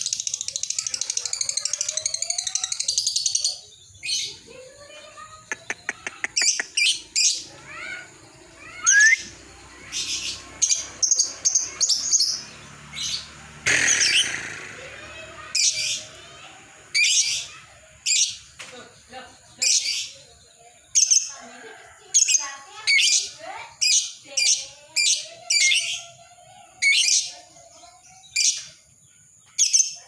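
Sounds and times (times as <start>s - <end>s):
bird chirping and squawking: 0.0s - 18.6s, 22.8s - 28.8s.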